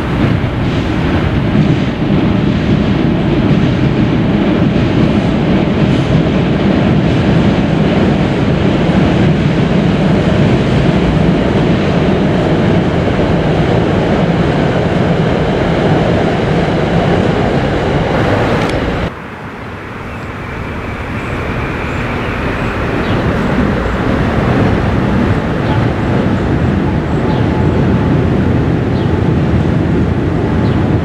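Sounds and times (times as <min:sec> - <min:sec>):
train rumbling across steel bridge: 0:00.0 - 0:31.0.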